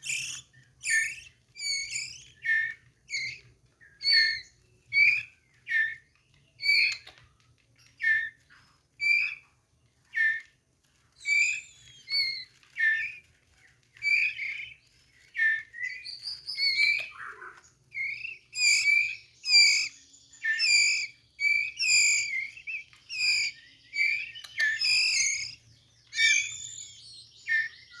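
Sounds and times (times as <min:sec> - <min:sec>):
bird chirping: 0:00.0 - 0:28.0.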